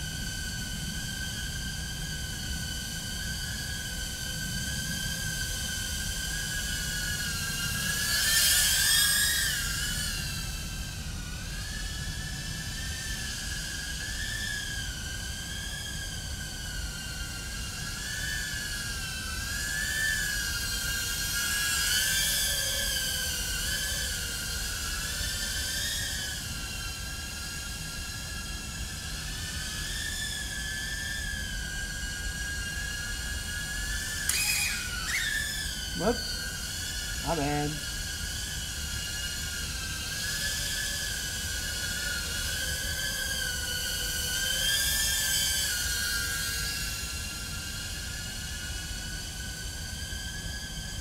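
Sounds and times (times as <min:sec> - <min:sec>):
drone motors whining: 0:00.0 - 0:51.0.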